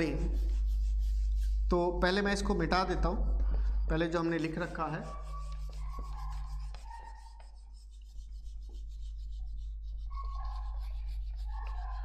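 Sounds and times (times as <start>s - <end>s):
eraser rubbing on whiteboard: 0.0s - 3.1s, 3.9s - 12.0s.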